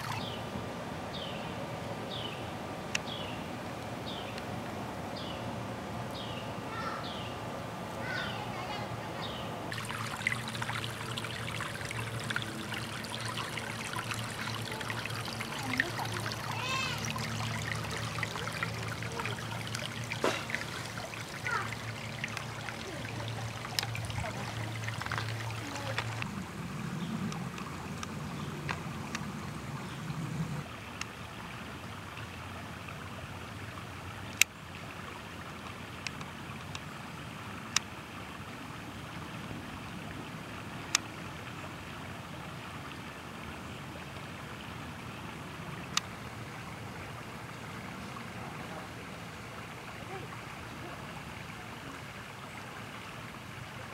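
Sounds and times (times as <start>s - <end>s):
creek water trickling over rocks: 0.0s - 7.3s, 7.9s - 53.9s.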